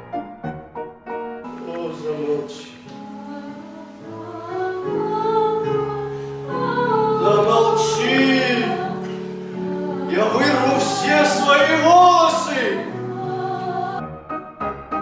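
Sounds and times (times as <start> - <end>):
music with singing: 1.5 - 15.0.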